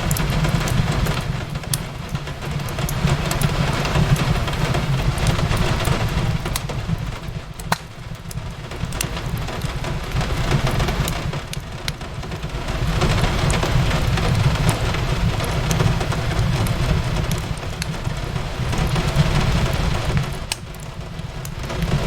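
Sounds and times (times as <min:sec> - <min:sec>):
fireplace crackling: 0:00.0 - 0:22.0
rain on a window: 0:00.0 - 0:22.0.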